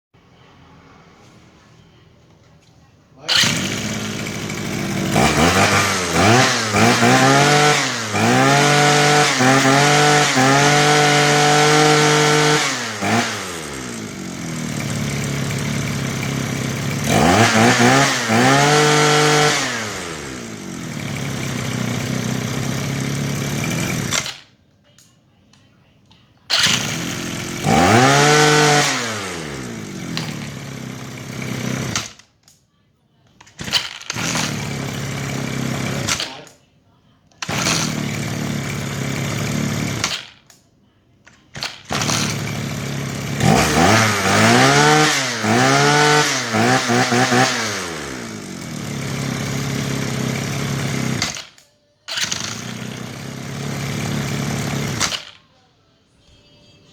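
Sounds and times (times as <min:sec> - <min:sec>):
brush cutter engine revving: 0:03.2 - 0:24.5, 0:26.5 - 0:32.2, 0:33.5 - 0:36.6, 0:37.4 - 0:40.4, 0:41.5 - 0:55.4.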